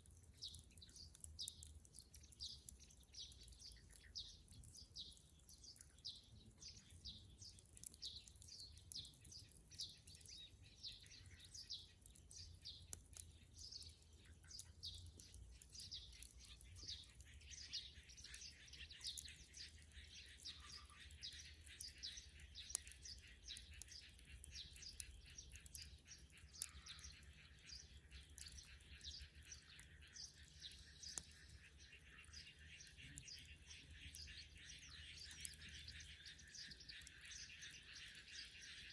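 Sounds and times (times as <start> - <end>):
bonfire popping: 0.0 - 38.6
small birds chirping: 0.0 - 38.9.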